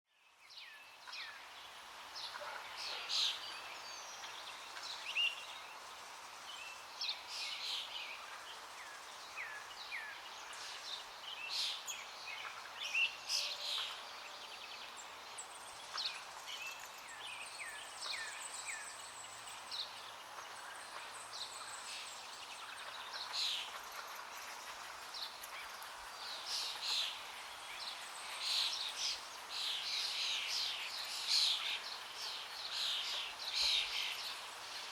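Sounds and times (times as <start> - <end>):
outdoor ambience hiss: 0.1 - 34.9.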